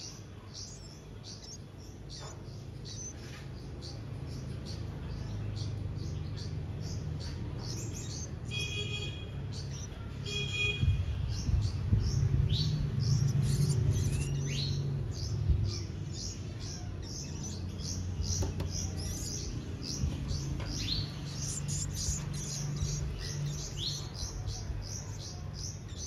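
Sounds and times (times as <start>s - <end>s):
baby birds chirping: 0.0s - 26.0s.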